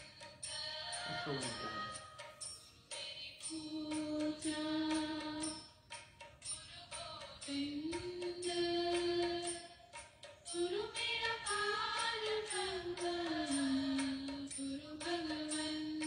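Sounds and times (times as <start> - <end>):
person singing chant-like melody: 0.0 - 2.3, 3.2 - 5.6, 6.9 - 16.0
instrumental accompaniment: 0.0 - 16.0.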